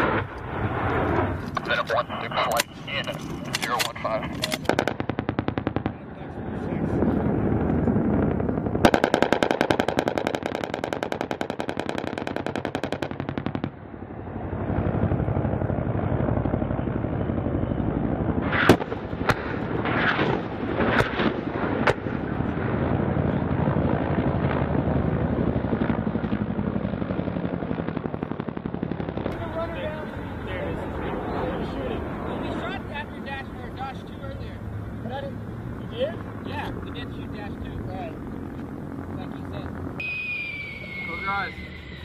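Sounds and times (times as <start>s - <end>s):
rapid rotary cannon fire: 0.0s - 34.5s
rockets firing: 0.0s - 42.0s
steady rumble: 0.0s - 42.0s.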